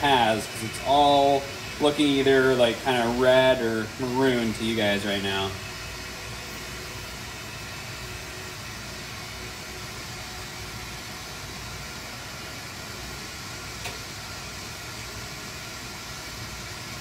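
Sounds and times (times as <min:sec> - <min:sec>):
bench torch hissing: 0:00.0 - 0:17.0.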